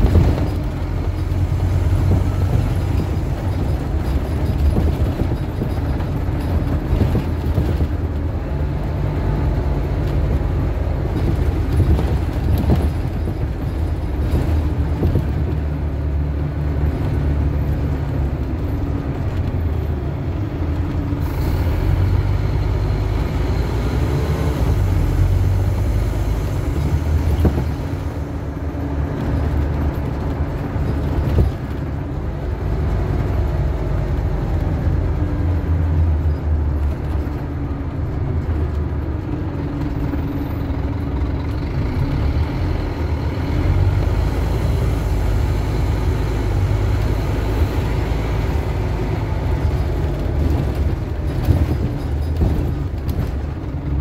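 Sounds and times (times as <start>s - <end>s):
bus engine and road drone: 0.0s - 54.0s.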